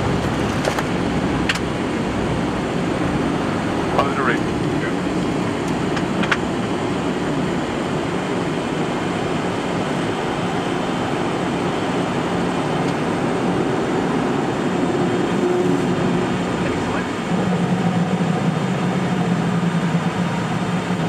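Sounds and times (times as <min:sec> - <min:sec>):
engine and airflow rush: 0:00.0 - 0:21.0.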